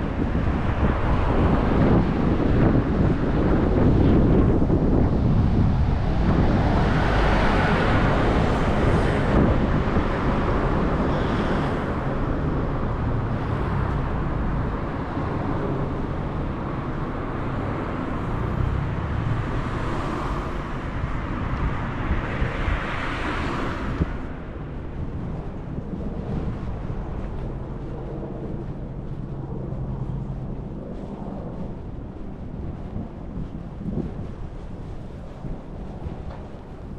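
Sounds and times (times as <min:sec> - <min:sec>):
road traffic: 0:00.0 - 0:36.9
vehicles passing: 0:00.0 - 0:36.9
wind buffeting microphone: 0:00.0 - 0:36.9.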